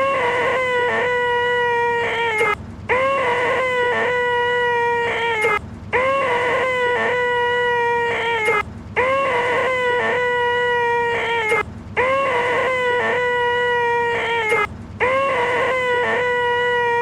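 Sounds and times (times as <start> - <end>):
man making nasal screech: 0.0 - 17.0.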